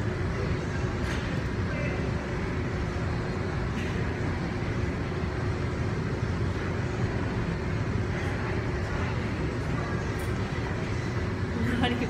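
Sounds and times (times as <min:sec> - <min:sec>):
faint steady hum: 0:00.0 - 0:12.0
low rumbling gym noise: 0:00.0 - 0:12.0.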